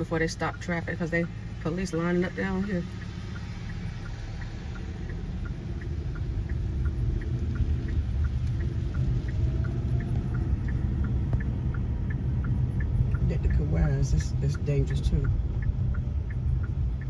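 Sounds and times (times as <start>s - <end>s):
car cabin road rumble: 0.0s - 17.0s
faint light ticks: 0.0s - 17.0s.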